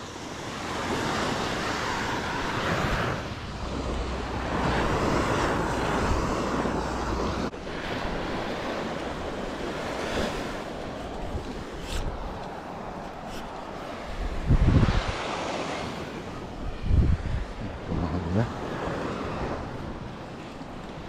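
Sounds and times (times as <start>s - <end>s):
surf waves breaking on sand: 0.0s - 21.0s
wind buffeting microphone: 0.5s - 21.0s.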